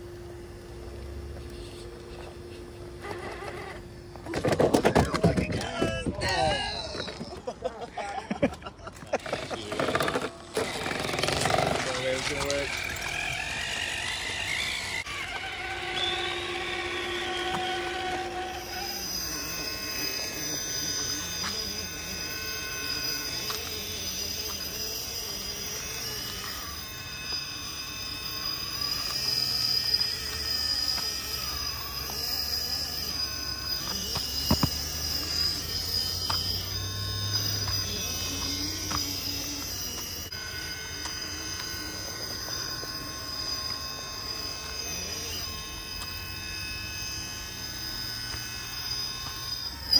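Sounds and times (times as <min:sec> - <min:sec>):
toy car motor whining: 0:00.6 - 0:49.9.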